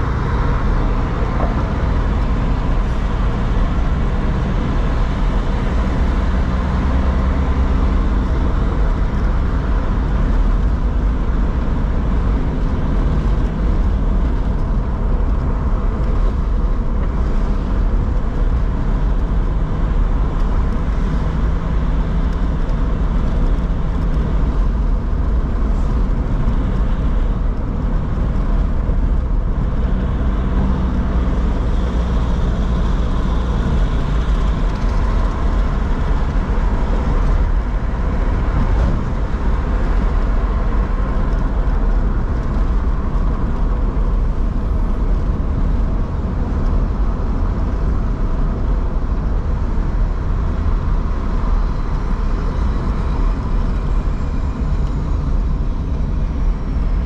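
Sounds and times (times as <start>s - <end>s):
car engine hum: 0.0s - 57.0s
tyres on a wet street: 0.0s - 57.0s.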